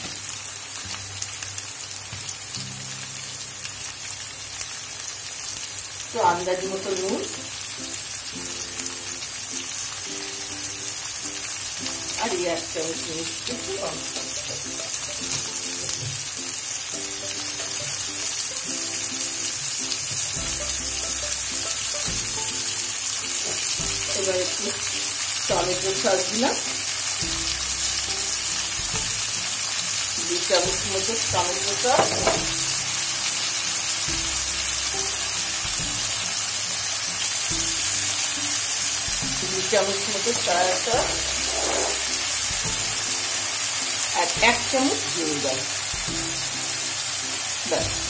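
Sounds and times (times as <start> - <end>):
vegetables sizzling in hot oil: 0.0 - 48.0
background music: 6.1 - 48.0.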